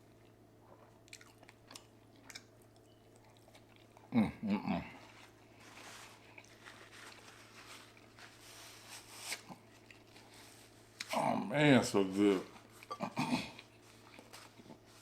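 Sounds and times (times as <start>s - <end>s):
person chewing: 0.0s - 8.2s, 9.3s - 11.2s, 12.6s - 15.0s.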